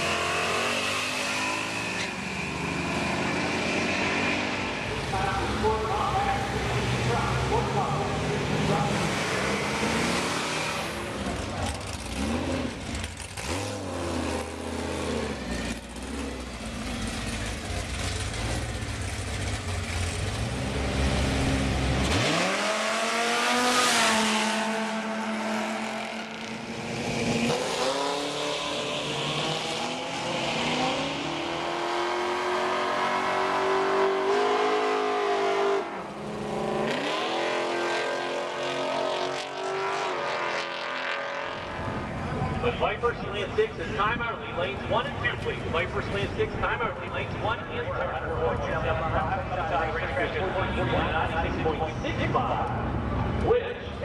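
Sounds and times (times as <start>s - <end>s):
car engines idling and revving: 0.0s - 54.0s
cars accelerating at full throttle: 0.0s - 54.0s.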